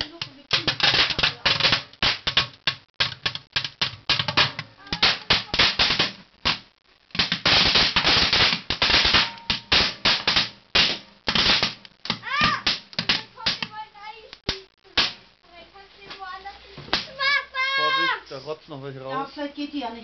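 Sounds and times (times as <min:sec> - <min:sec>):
firecrackers crackling and popping: 0:00.0 - 0:20.0.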